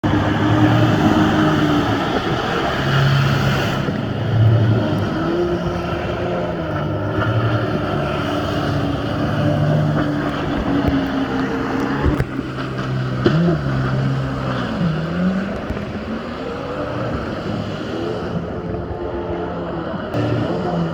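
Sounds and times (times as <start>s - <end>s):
jet ski engine running: 0.0s - 20.9s
rushing water and wind: 0.0s - 20.9s.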